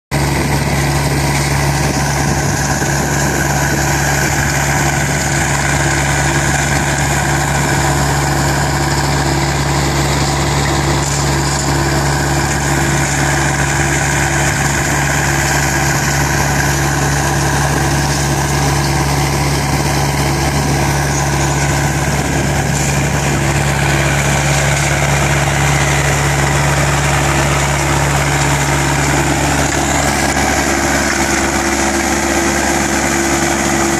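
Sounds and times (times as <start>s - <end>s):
diesel machine running: 0.1s - 33.9s.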